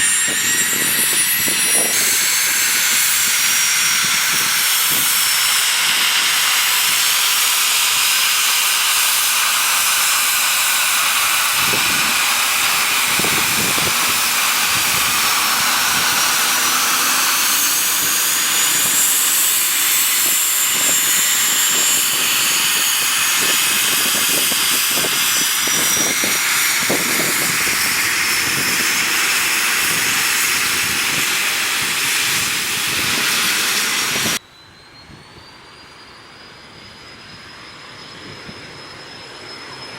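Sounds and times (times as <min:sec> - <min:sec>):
jet engines hissing and whining: 0:00.0 - 0:39.9.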